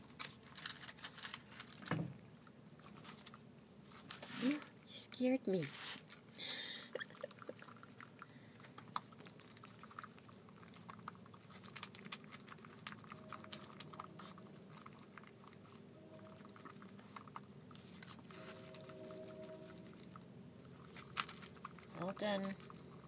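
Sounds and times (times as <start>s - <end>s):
raccoon chewing food: 0.0s - 23.0s.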